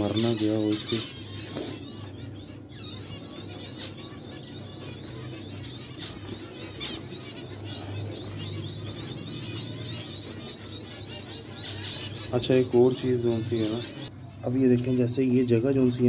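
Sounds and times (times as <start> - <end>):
finches chirping: 0.0 - 16.0.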